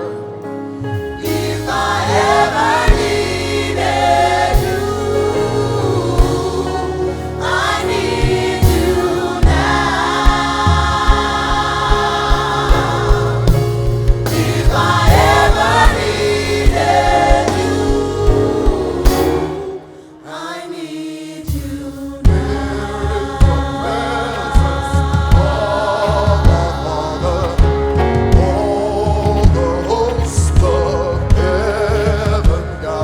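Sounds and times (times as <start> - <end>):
gospel choir singing over a beat: 0.8 - 33.0.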